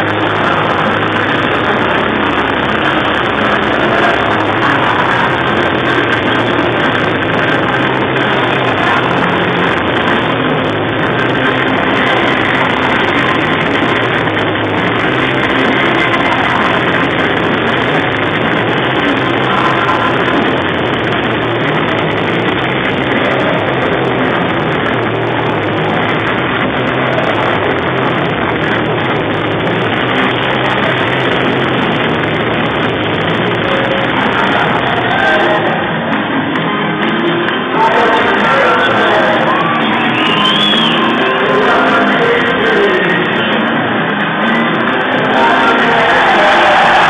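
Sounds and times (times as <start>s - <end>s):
crowd cheering and shouting: 0.0s - 47.0s
loud rock music over pa: 0.0s - 47.0s.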